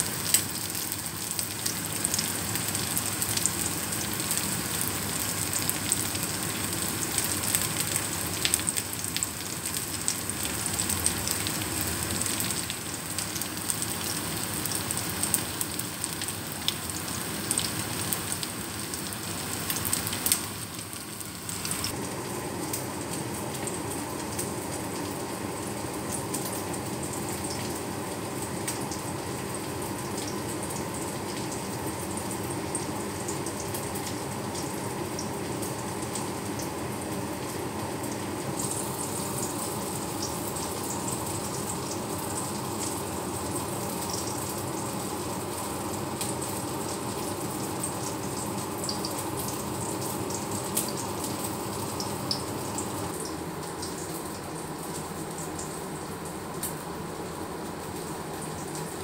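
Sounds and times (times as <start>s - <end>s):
patties sizzling in oil: 0.0s - 59.0s.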